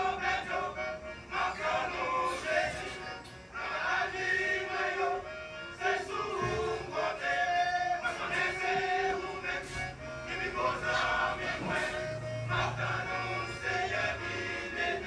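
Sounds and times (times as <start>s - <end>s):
instrumental backing: 0.0s - 15.0s
vocal group singing: 0.0s - 15.0s.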